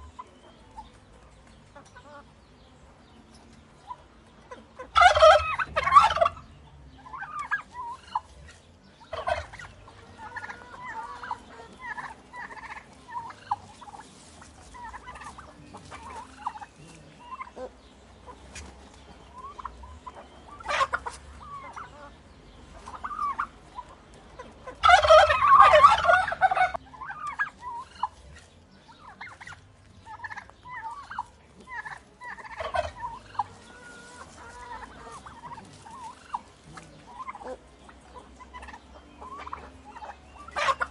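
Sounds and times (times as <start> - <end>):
turkey gobbling: 0.0 - 1.0, 1.7 - 2.3, 3.8 - 40.9
turkey clucks: 0.0 - 40.9.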